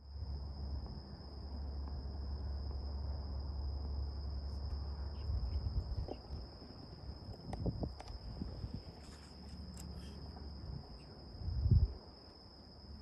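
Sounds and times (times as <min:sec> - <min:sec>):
insects chirring: 0:00.0 - 0:13.0
steady low rumble: 0:00.2 - 0:12.0.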